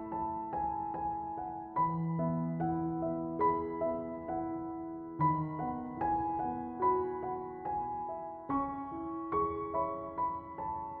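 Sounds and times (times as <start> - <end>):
slow gentle instrumental music: 0.0 - 11.0.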